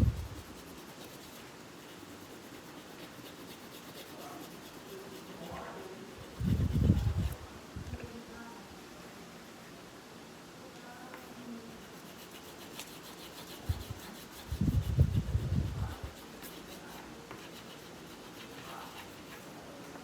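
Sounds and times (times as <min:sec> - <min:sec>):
colouring strokes on paper: 0:00.0 - 0:07.5, 0:11.2 - 0:20.0.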